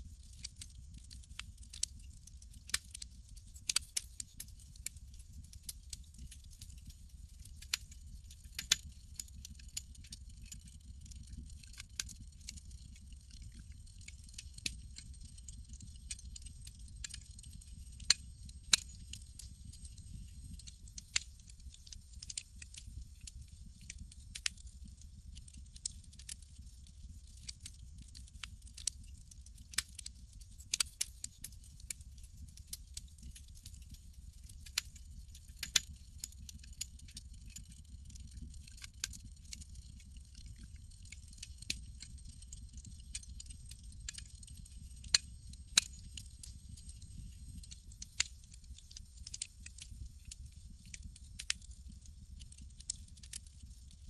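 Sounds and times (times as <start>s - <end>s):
low rumble of burning wood: 0.0s - 54.0s
campfire crackling and popping: 0.2s - 54.0s.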